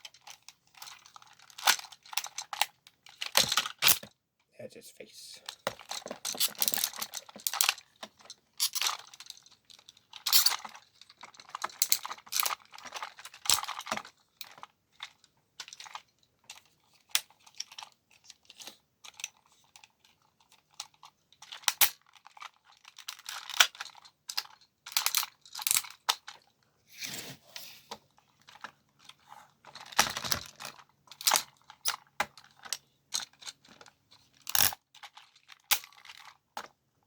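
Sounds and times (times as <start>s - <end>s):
plastic parts scraping: 0.0s - 4.1s, 5.4s - 36.8s
plastic toy parts clicking: 0.0s - 4.1s, 5.4s - 26.6s, 28.4s - 36.7s.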